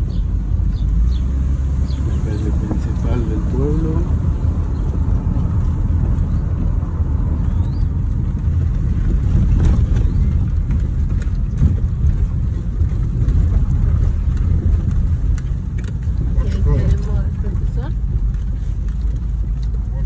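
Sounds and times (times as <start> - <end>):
car interior road rumble: 0.0 - 20.0.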